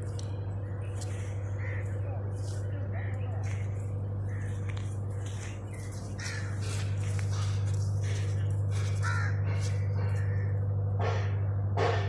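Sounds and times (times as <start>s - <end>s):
low electrical hum: 0.0s - 12.0s
crows cawing: 1.0s - 10.8s.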